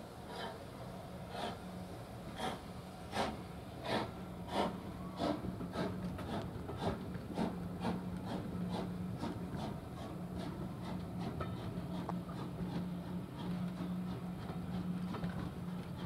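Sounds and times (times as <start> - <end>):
steam locomotive chuffing: 2.3 - 16.0.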